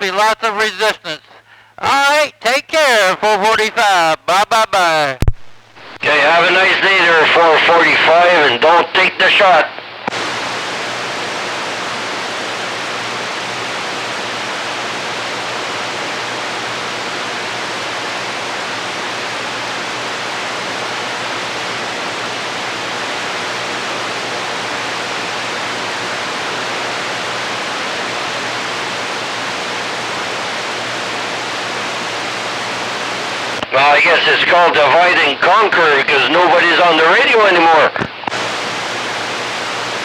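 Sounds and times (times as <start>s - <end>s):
radio static hiss: 0.0s - 40.0s.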